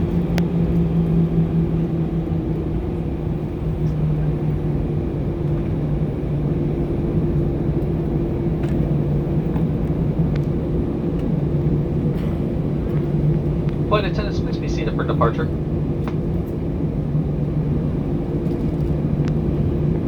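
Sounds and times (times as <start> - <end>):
aircraft cabin rumble: 0.0 - 20.0
two-tone engine hum: 0.0 - 20.0.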